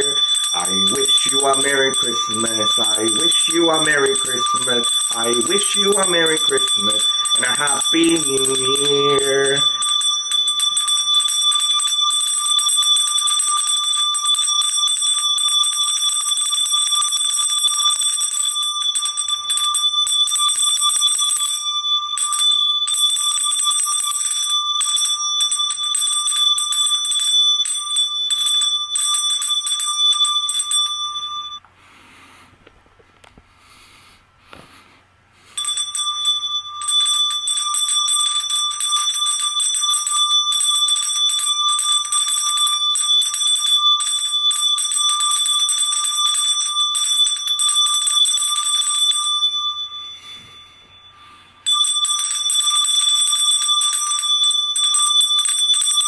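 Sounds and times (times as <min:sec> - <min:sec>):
handbell ringing: 0:00.0 - 0:31.6, 0:35.6 - 0:56.0.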